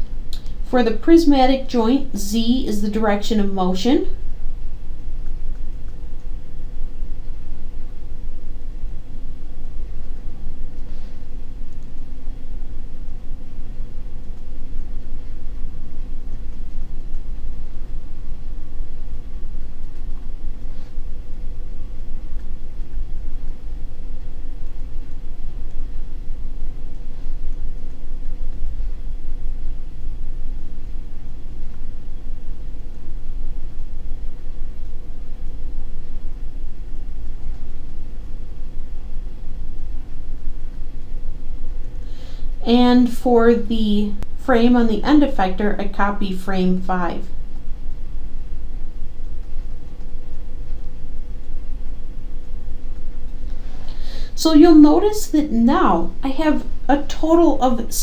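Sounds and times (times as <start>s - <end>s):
low background rumble: 0.0s - 58.0s
steady hum: 0.0s - 58.0s.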